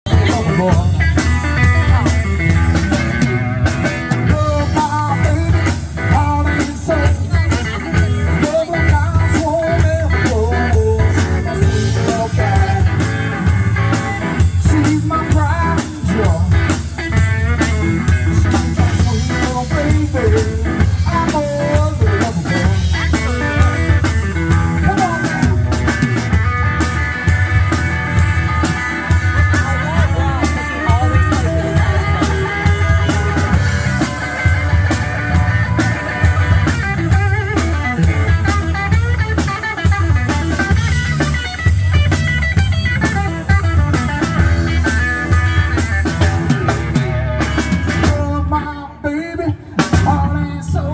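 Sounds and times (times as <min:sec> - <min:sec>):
blues-rock band playing: 0:00.0 - 0:50.9
electric guitar lead: 0:00.0 - 0:50.9.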